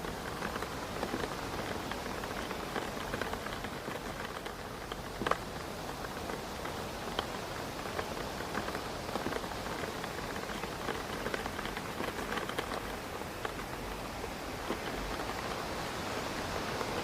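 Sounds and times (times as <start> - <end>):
rain and wind: 0.0 - 17.0
raindrops tapping on window: 0.0 - 17.0.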